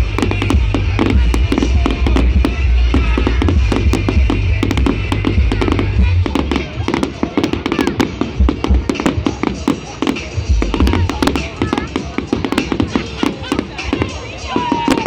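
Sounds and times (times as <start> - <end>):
fireworks crackling and banging: 0.0 - 15.0
loud music with heavy bass: 0.0 - 15.0.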